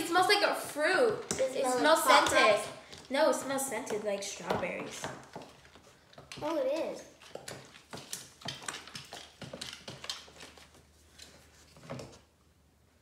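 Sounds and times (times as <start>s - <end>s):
wooden sticks knocking on plastic: 0.0s - 10.8s.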